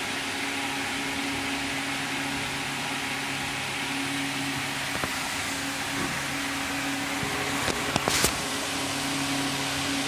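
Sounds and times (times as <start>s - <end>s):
machine humming and hissing: 0.0s - 10.0s.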